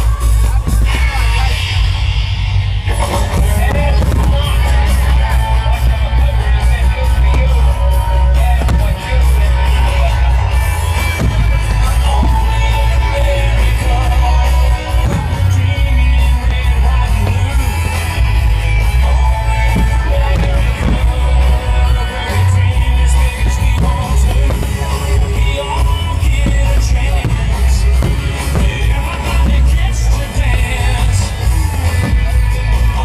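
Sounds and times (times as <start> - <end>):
loud music with singing: 0.0 - 33.0.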